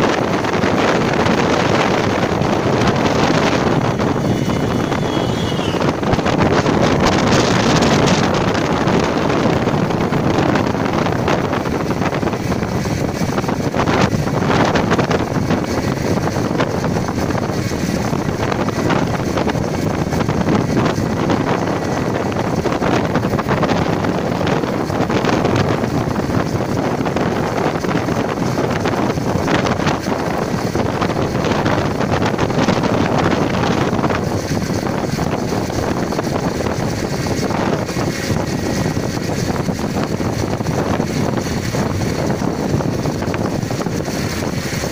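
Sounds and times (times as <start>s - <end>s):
engine and road noise: 0.0s - 44.9s
wind buffeting microphone: 0.0s - 44.9s.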